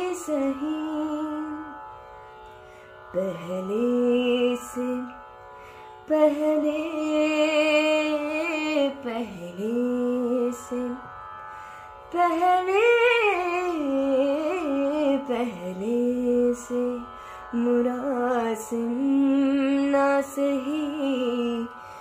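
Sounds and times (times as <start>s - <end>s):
woman singing ornamented phrases: 0.0s - 1.8s, 3.1s - 5.2s, 6.1s - 11.0s, 12.1s - 21.8s.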